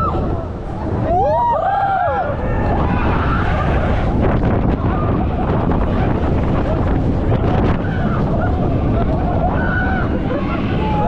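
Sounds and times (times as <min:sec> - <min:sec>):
roller coaster train rumble: 0:00.0 - 0:11.0
wind rushing over microphone: 0:00.0 - 0:11.0.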